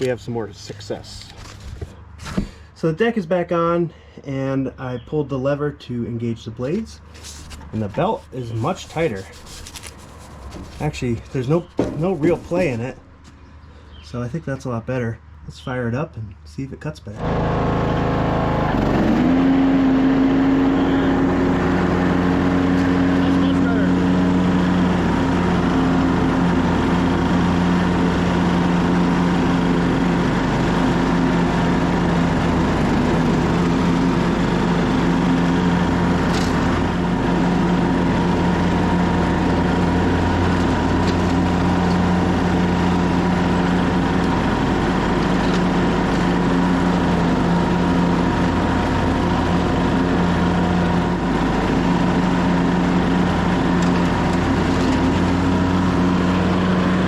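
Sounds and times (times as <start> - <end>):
lawn tractor engine mowing: 0.0 - 2.7, 6.6 - 14.0, 17.2 - 57.0.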